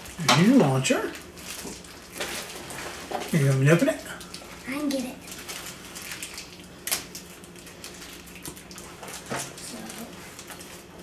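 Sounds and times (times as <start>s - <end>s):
plastic packaging crinkling: 1.1s - 11.0s.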